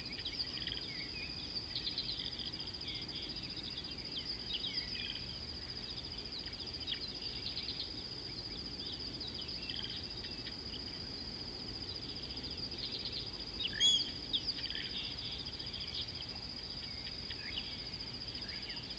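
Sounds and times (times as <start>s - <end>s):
high-pitched insect trill: 0.0s - 18.9s
small birds chirping: 0.0s - 18.9s.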